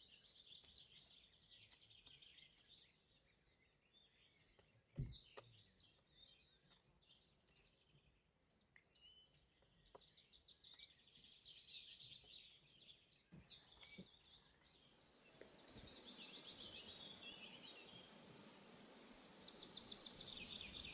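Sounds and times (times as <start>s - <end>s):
songbirds singing: 0.0s - 20.9s.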